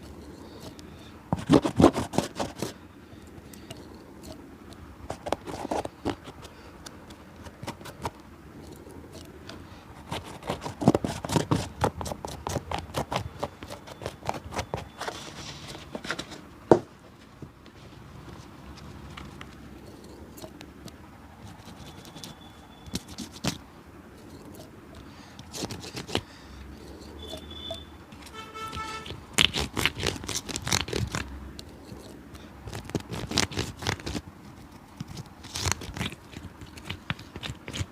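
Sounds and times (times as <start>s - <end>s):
scraping and tapping on a shoe: 0.0s - 2.8s, 3.6s - 23.6s, 24.2s - 26.2s, 26.8s - 37.9s.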